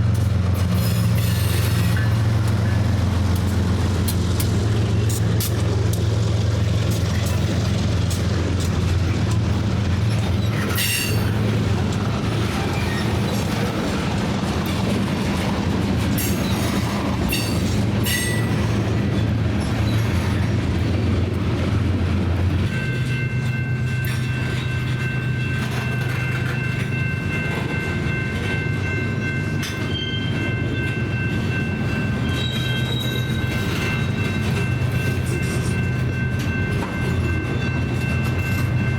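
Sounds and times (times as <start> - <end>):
diesel train rumble: 0.0 - 38.9.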